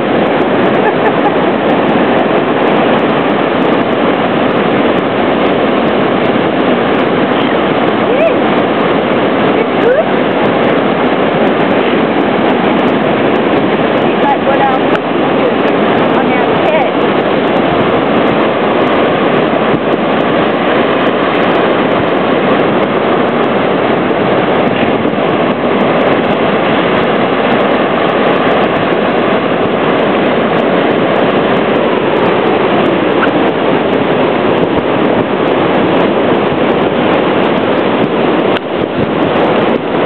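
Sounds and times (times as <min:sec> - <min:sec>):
steady loud rushing noise: 0:00.0 - 0:40.0.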